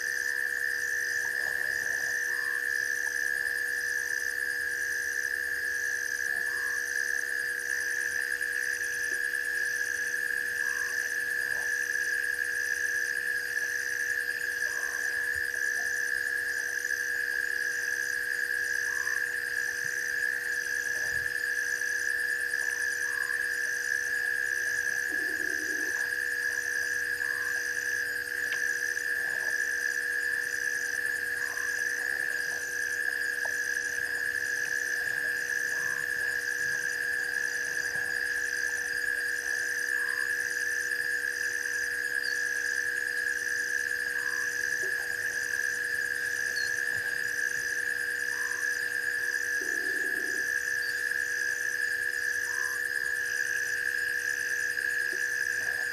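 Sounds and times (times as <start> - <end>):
pulsing higher frog call: 0.0 - 17.8, 18.6 - 55.9.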